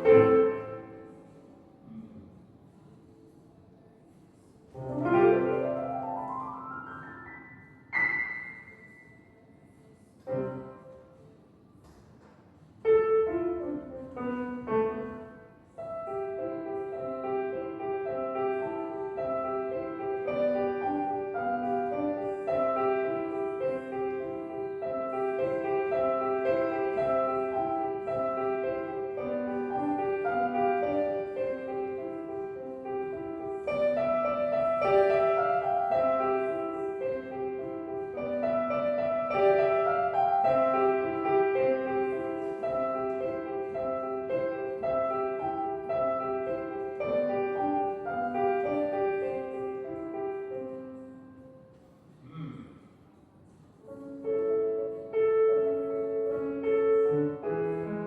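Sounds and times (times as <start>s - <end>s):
piano playing: 0.0s - 1.4s, 4.7s - 9.2s, 12.9s - 52.0s, 53.4s - 58.0s.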